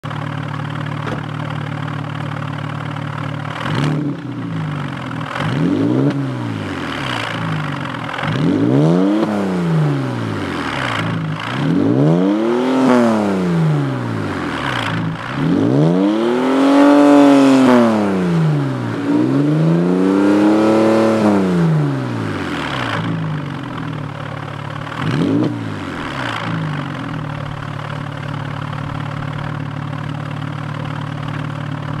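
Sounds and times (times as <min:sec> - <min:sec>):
car engine idling: 0:00.0 - 0:32.0
car engine revving: 0:02.8 - 0:32.0.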